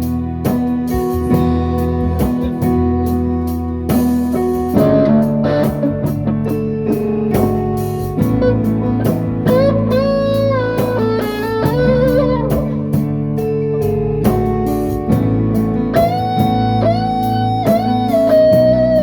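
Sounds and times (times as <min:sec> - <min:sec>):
guitar with bending notes: 0:00.0 - 0:19.0
steady drum beat: 0:00.0 - 0:19.0.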